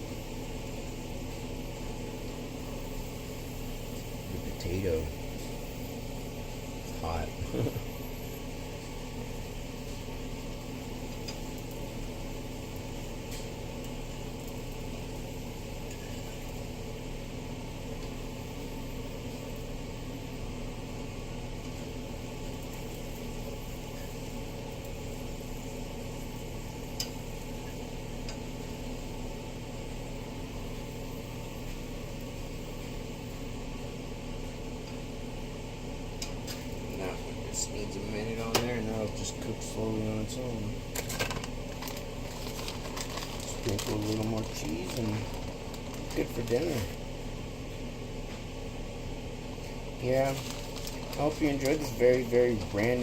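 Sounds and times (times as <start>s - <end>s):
kitchen exhaust fan humming: 0.0s - 53.0s.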